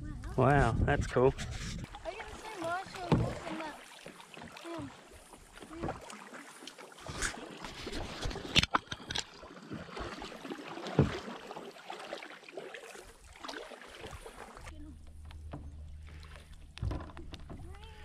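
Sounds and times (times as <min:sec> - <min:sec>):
water lapping and splashing: 0:00.0 - 0:18.0.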